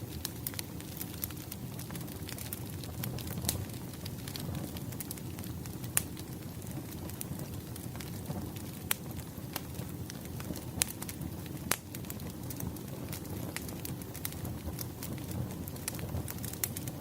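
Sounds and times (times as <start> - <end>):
logs popping and crackling: 0.0 - 17.0
wood fire burning: 0.0 - 17.0.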